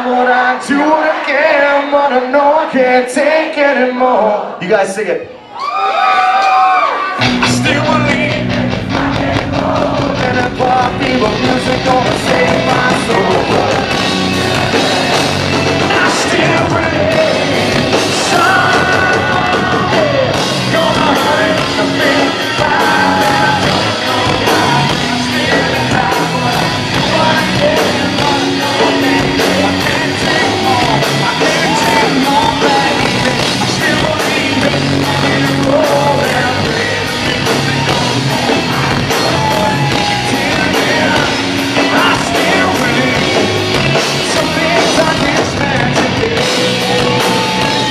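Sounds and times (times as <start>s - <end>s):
drums: 7.1s - 47.9s
live rock band playing: 7.1s - 47.9s
distorted guitars: 7.2s - 47.9s
person singing and yelling: 7.2s - 47.9s.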